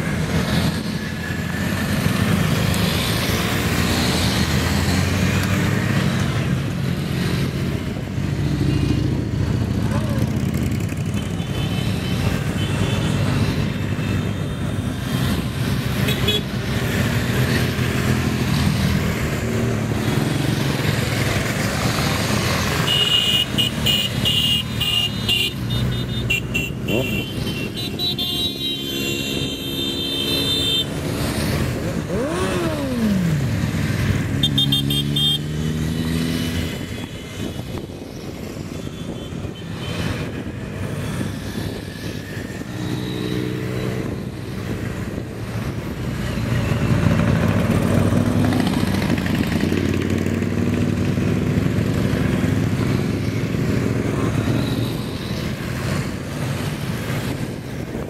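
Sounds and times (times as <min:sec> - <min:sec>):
vehicle engines running and revving: 0:00.0 - 0:58.0.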